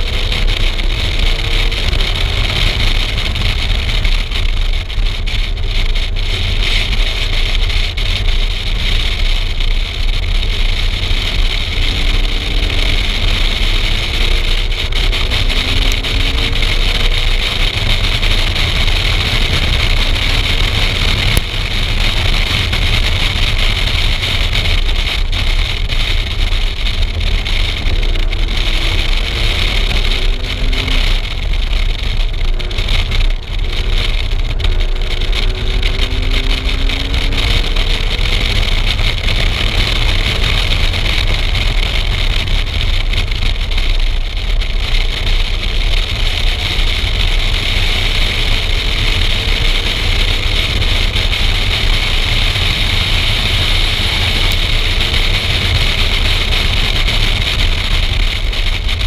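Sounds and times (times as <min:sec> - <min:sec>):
wind and road noise: 0:00.0 - 0:59.0
race car engine accelerating: 0:06.1 - 0:59.0.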